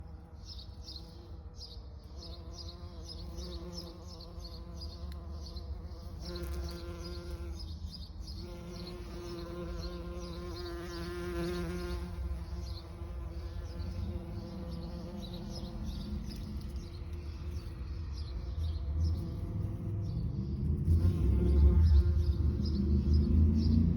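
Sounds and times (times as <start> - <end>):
bee buzzing in flight: 2.2 - 7.8, 8.4 - 23.9.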